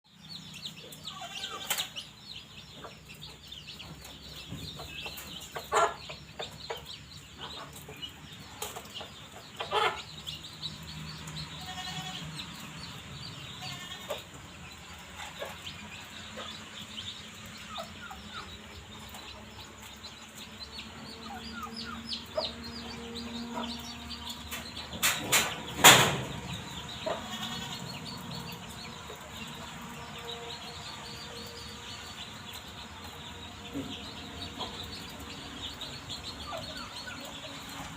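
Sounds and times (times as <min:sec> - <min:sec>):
chickens clucking and chirping: 0:00.1 - 0:37.9.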